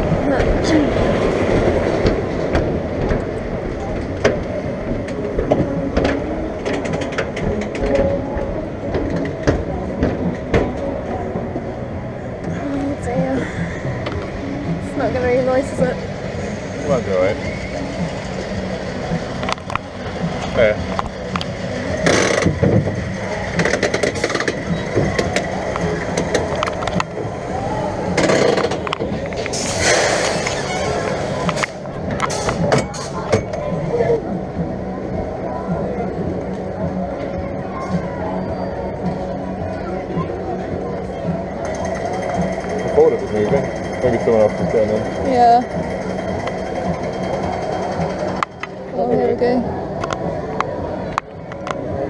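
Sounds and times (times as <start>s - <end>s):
fairground background noise: 0.0s - 52.0s
steady rumbling clatter: 0.0s - 52.0s.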